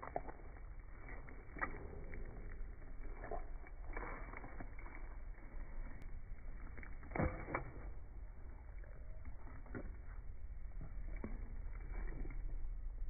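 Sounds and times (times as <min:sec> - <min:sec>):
dog chewing and licking: 0:00.0 - 0:13.0.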